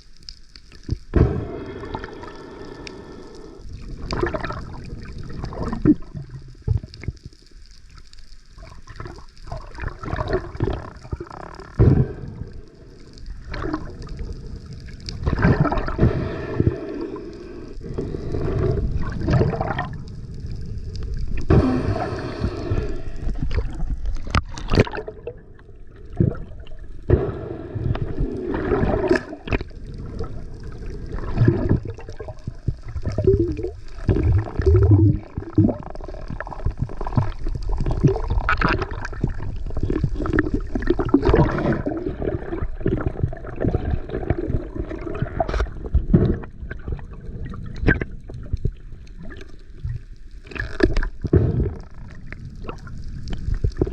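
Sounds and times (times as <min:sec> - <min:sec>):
underwater water surges: 0:00.0 - 0:53.9.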